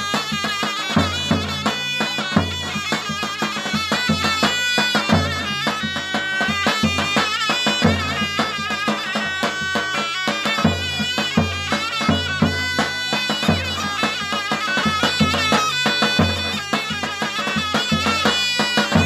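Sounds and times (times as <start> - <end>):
zurna playing ornamented melody: 0.0 - 19.0.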